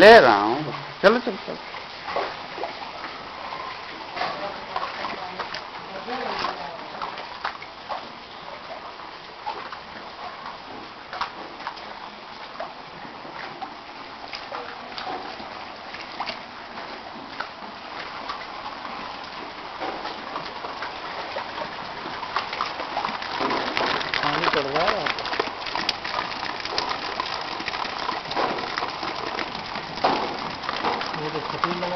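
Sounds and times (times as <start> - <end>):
floodwater rushing: 0.0 - 31.9
small water splashes: 0.0 - 31.9.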